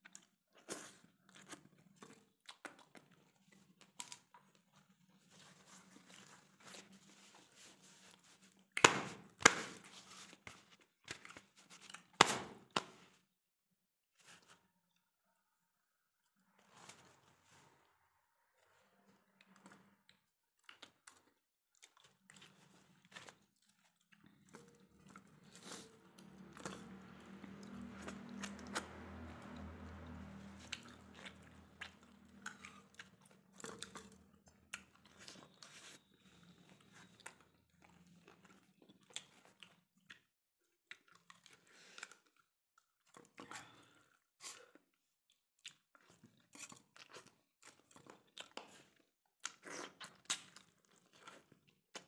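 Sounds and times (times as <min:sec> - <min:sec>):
man chewing and crunching: 0:00.0 - 0:12.2, 0:19.4 - 0:52.0.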